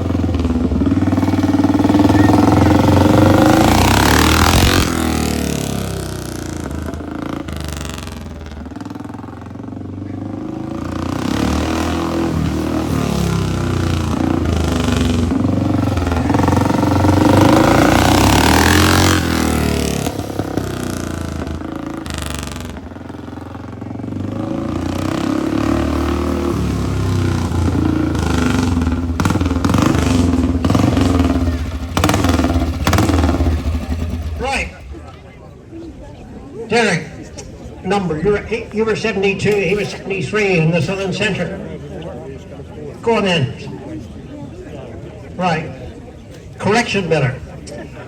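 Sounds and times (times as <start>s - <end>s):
motorcycle engine passing: 0.0s - 48.0s.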